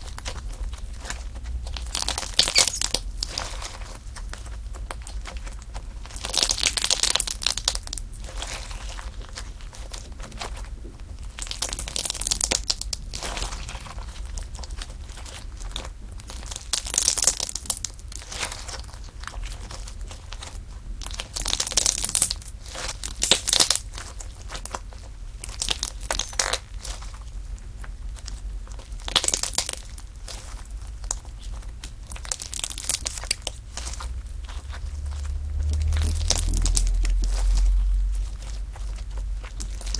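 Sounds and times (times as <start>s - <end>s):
slime crackling and crunching: 0.0s - 39.9s.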